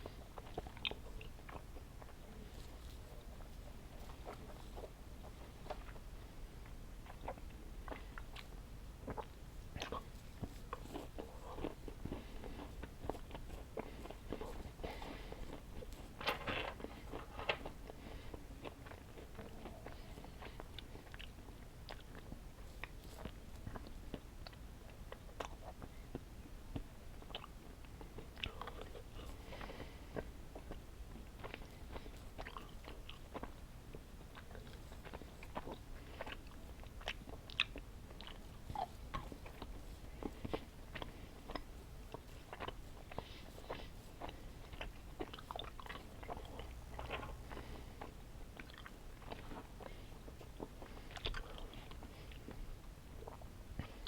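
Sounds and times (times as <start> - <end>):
person chewing candy: 0.0 - 54.0.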